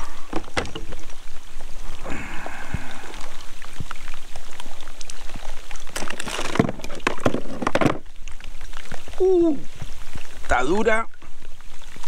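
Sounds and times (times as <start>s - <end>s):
water dripping: 0.0s - 12.0s.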